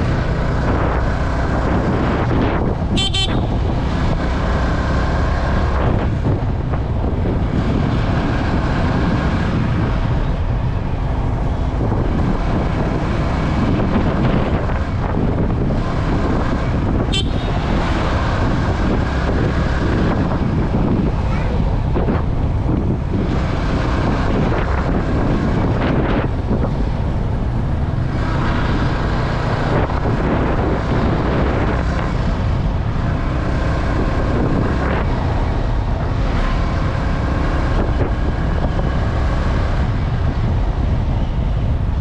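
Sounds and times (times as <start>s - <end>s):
motorcycle engine: 0.0s - 42.0s
wind buffeting microphone: 0.0s - 42.0s.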